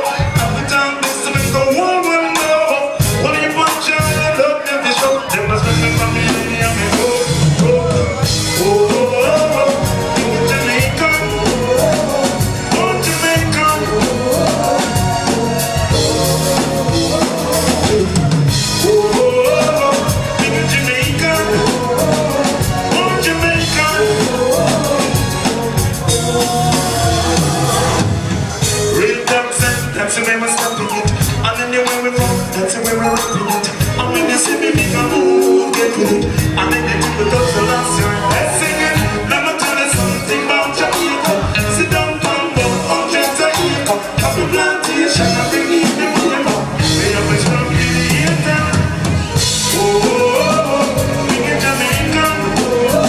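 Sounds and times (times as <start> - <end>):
live reggae band playing: 0.0 - 53.0
person singing: 0.0 - 53.0.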